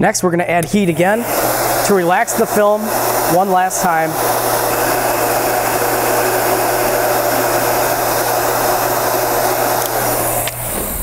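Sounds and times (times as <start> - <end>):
heat gun blowing with low hum: 0.6 - 11.0.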